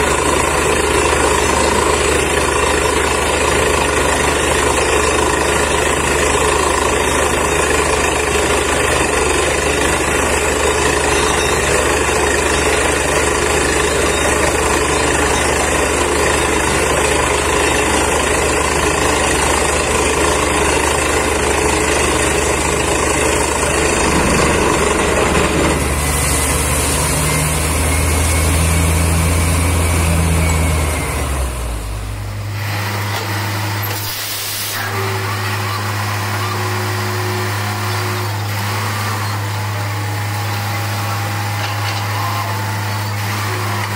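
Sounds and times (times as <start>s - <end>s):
drilling rig engine running: 0.0s - 43.9s.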